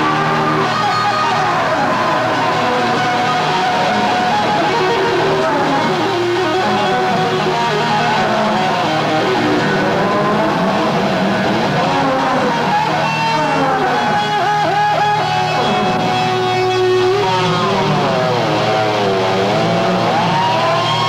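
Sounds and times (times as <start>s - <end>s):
electric guitar bending notes: 0.0s - 21.0s
heavy metal band playing: 0.0s - 21.0s.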